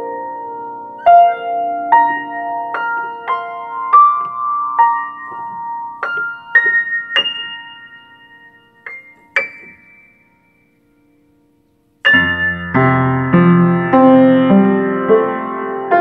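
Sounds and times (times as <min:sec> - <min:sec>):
piano notes ringing: 0:00.0 - 0:16.0.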